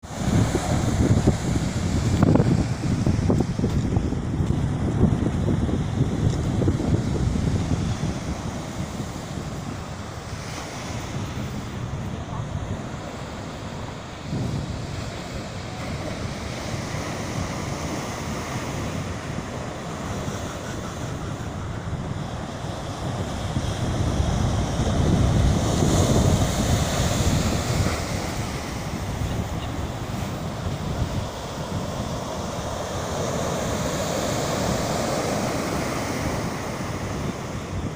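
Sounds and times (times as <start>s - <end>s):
ocean surf breaking: 0.0s - 37.9s
wind buffeting microphone: 0.0s - 37.9s.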